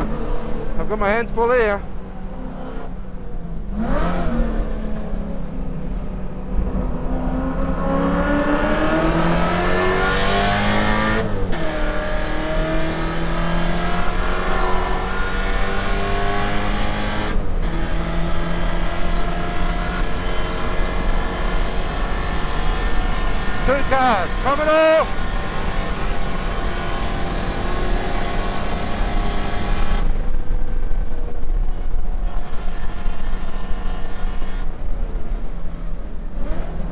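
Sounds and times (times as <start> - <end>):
car engine accelerating hard: 0.0 - 36.9.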